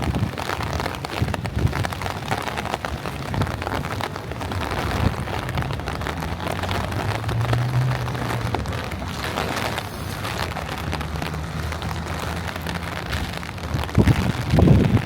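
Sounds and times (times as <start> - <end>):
rain pattering: 0.0 - 15.0
wind rumble on microphone: 0.0 - 15.0.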